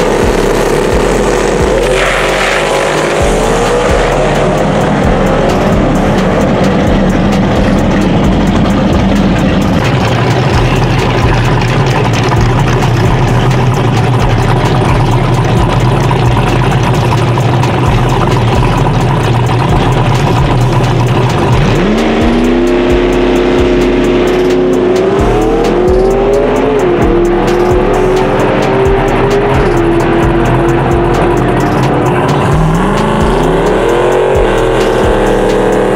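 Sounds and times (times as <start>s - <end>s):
v eight engine idling and revving: 0.0s - 35.9s.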